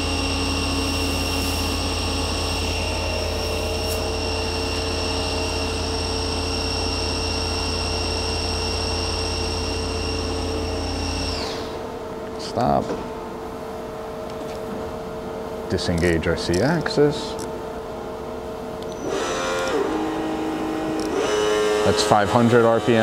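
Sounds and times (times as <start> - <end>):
machine tool drive whining hum: 0.0 - 23.0.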